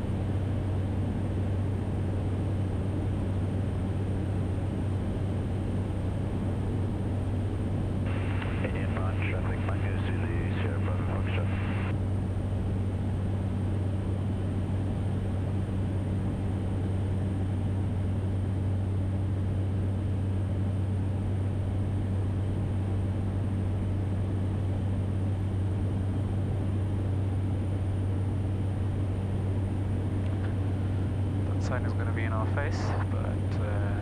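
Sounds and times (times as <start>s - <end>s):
turboprop engine drone: 0.0s - 34.0s.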